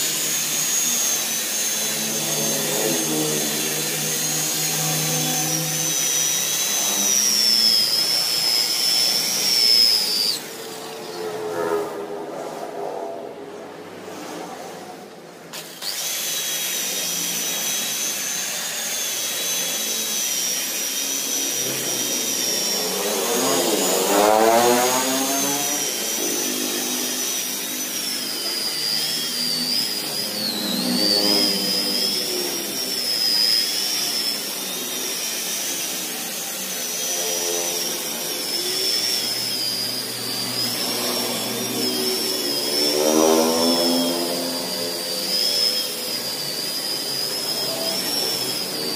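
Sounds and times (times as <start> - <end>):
electric car polisher whining: 0.0 - 13.4, 14.0 - 48.9.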